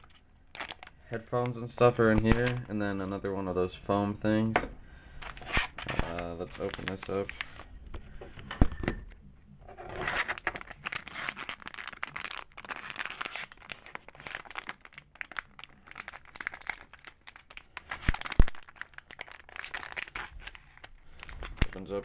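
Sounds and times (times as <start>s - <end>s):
plastic packaging crinkling: 0.0s - 3.2s, 5.2s - 7.7s, 9.8s - 22.0s.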